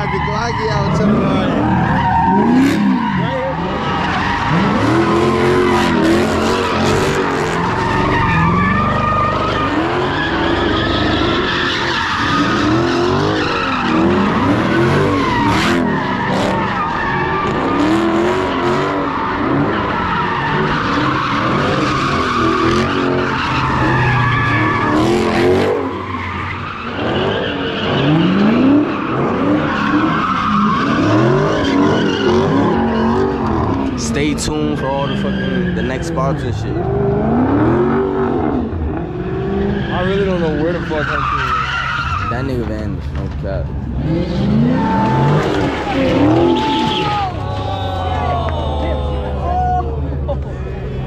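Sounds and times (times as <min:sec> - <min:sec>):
tyre squeal: 0:00.0 - 0:36.2, 0:39.6 - 0:42.6, 0:44.1 - 0:49.4
car engines revving: 0:00.0 - 0:51.0.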